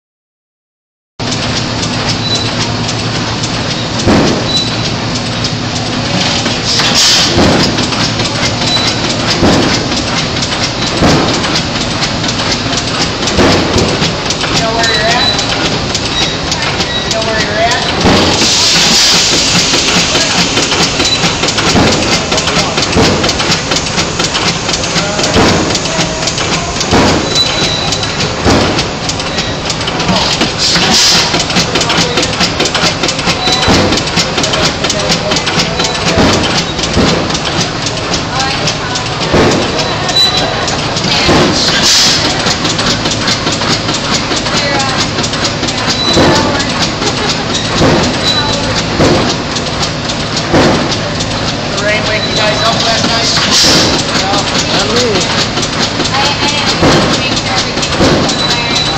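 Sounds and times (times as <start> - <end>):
hit-and-miss engine firing beat: 1.2 - 58.9
mechanical clatter of clicks: 1.2 - 58.9.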